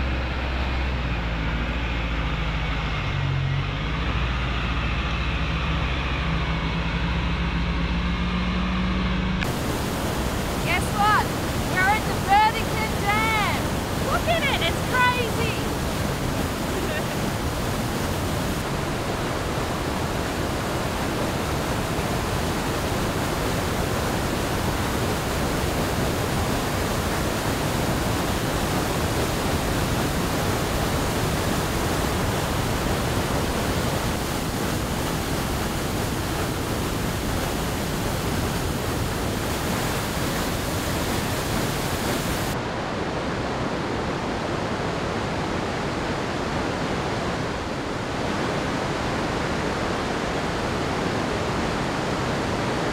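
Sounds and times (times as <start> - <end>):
water roaring over spillway: 0.0 - 52.9.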